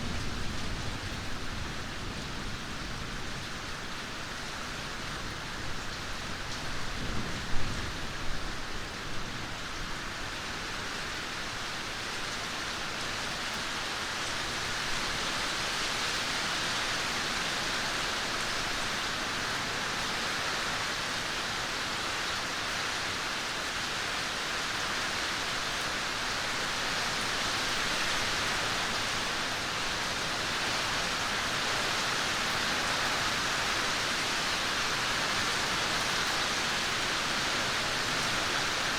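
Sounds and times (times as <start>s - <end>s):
rain hissing on surfaces: 0.0s - 38.9s.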